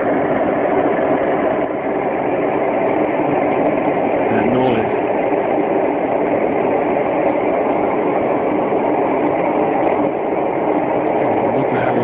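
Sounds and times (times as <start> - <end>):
loud steady drone with hum: 0.0 - 12.0.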